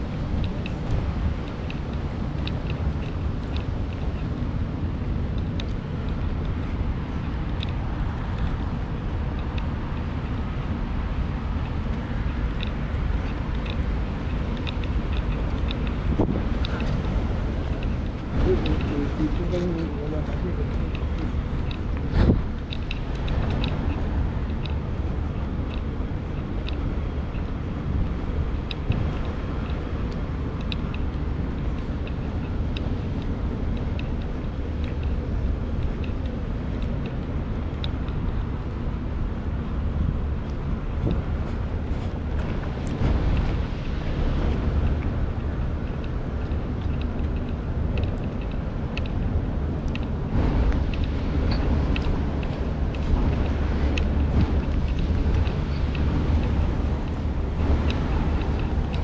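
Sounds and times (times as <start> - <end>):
light high ticks of rain: 0.0 - 59.0
low rumble: 0.0 - 59.0.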